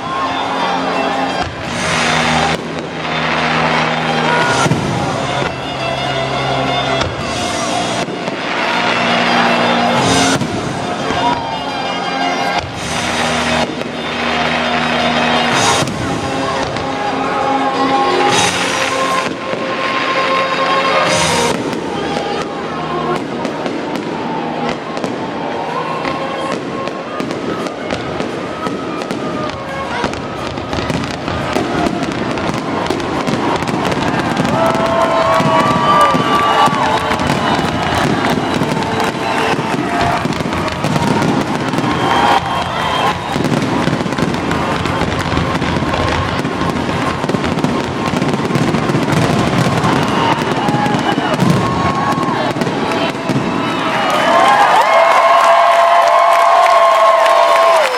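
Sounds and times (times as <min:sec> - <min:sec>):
fireworks popping and crackling: 0:00.0 - 0:57.9
music playing: 0:00.0 - 0:57.9.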